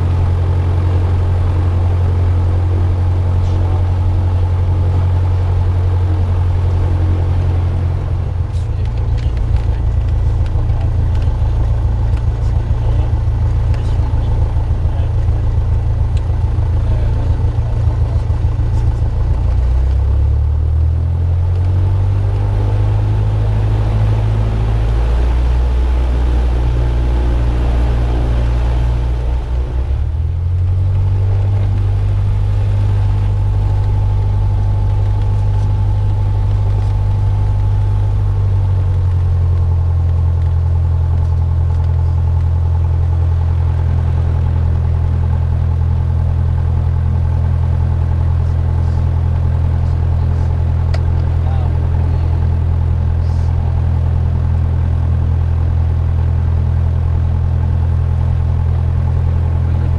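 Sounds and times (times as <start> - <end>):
airplane drone: 0.0 - 59.9.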